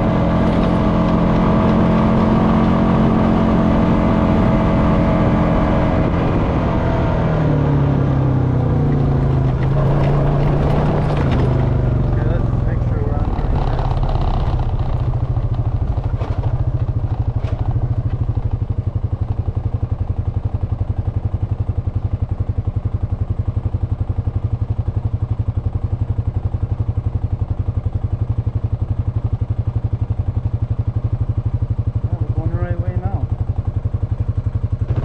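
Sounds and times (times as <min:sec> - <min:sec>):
atv engine running steadily: 0:00.0 - 0:35.0.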